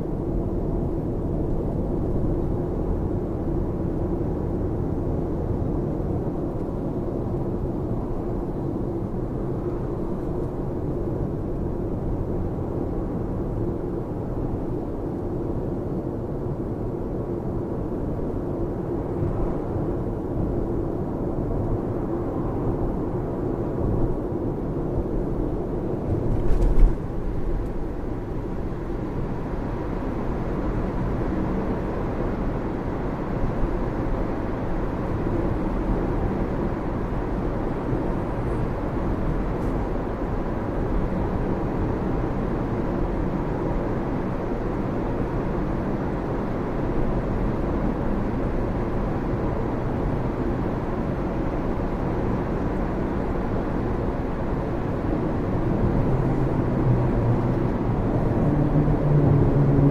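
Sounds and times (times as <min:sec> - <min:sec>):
road and tyre noise in car: 0:00.0 - 0:59.9.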